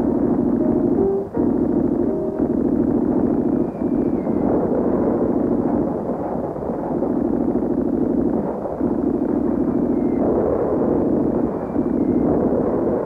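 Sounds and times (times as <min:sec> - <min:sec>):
dense muffled rumbling: 0:00.0 - 0:13.0.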